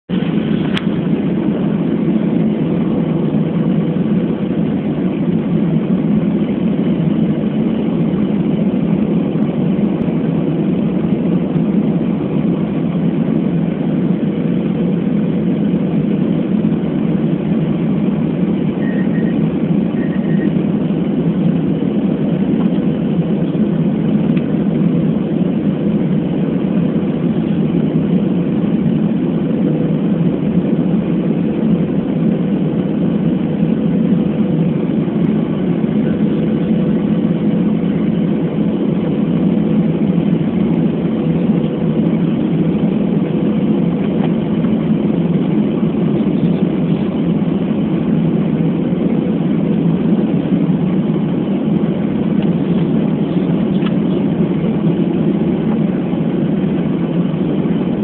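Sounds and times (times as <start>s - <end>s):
engine and airflow drone: 0.0s - 58.0s.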